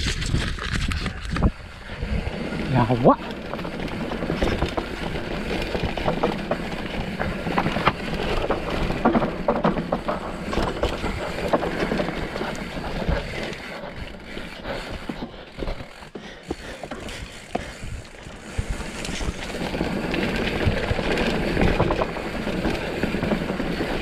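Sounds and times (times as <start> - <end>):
tyre and wind rush: 0.0 - 24.0
bike rattling knocks: 3.2 - 24.0.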